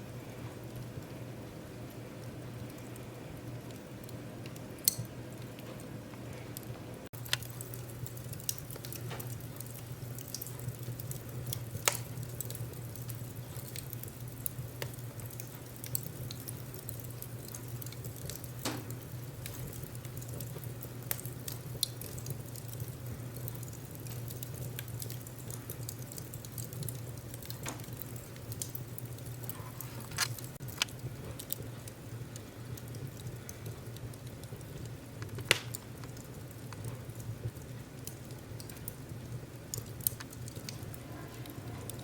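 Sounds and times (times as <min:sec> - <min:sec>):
low rumble of flames: 0:00.0 - 0:42.0
wood fire crackling: 0:00.0 - 0:42.0
sharp pops and snaps: 0:04.4 - 0:05.8, 0:07.1 - 0:31.7, 0:32.7 - 0:40.9.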